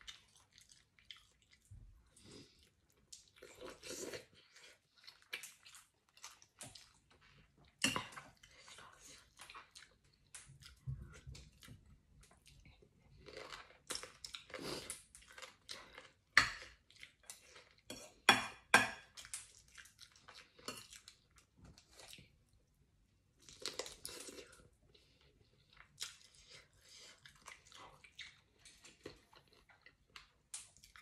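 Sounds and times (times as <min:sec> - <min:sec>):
close-up chewing: 0:00.0 - 0:17.9, 0:23.4 - 0:31.0.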